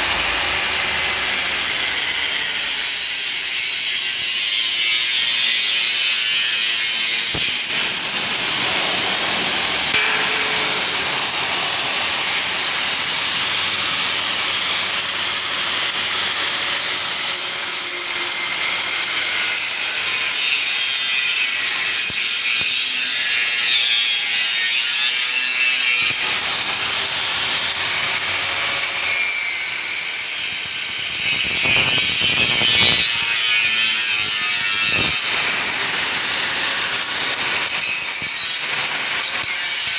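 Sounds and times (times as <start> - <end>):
metal cutting with high whine: 0.0 - 39.9.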